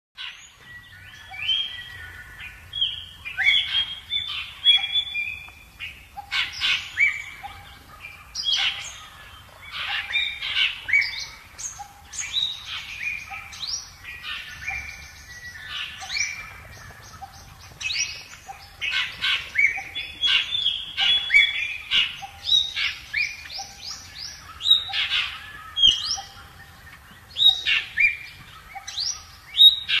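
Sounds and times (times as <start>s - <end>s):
birds chirping: 0.2s - 30.0s.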